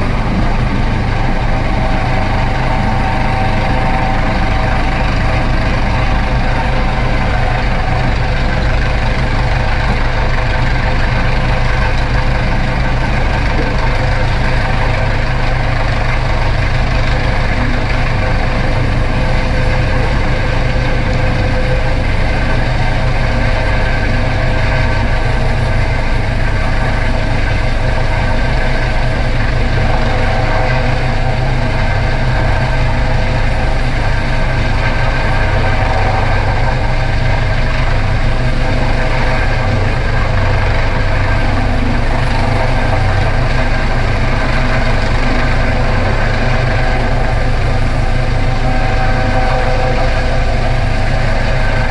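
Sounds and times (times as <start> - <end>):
helicopter hovering: 0.0 - 51.9.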